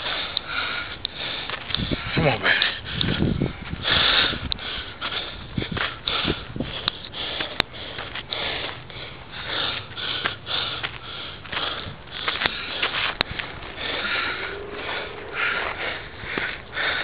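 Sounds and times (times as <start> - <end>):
person panting hard: 0.0 - 17.0.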